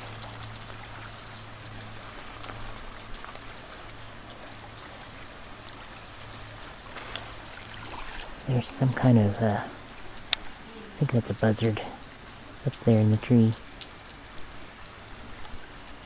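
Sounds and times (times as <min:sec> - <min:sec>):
water splashing down rock wall: 0:00.0 - 0:16.0.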